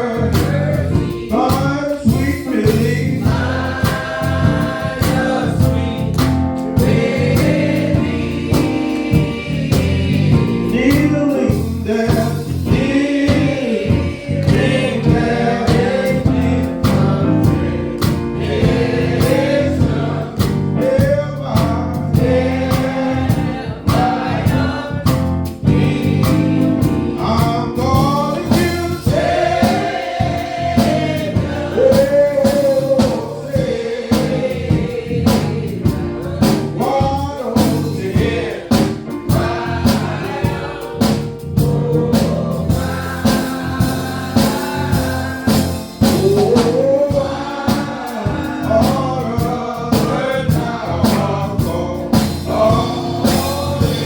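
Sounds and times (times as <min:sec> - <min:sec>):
gospel choir singing: 0:00.0 - 0:54.0
instrumental accompaniment: 0:00.0 - 0:54.0.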